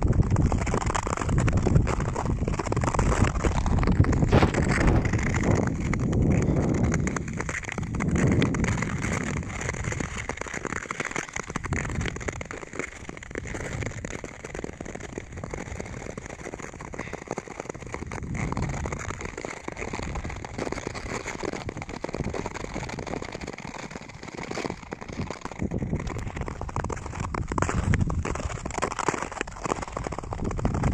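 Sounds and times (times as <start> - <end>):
low ice rumbles: 0.0 - 30.9
skate blades scraping over ice: 0.0 - 30.9.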